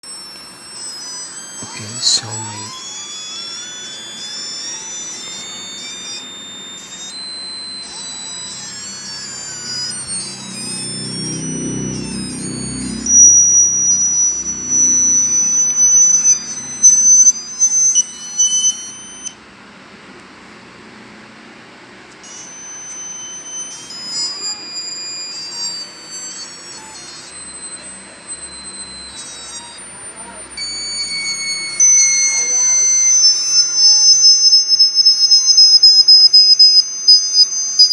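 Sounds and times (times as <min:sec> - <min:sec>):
electronic beeping and wailing tones: 0:00.0 - 0:19.4, 0:22.2 - 0:37.9.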